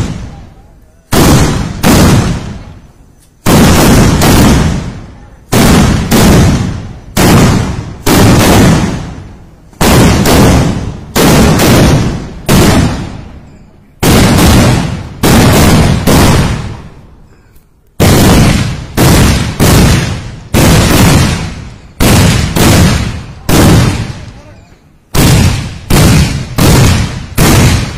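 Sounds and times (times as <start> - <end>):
firecrackers banging: 0.0 - 27.9.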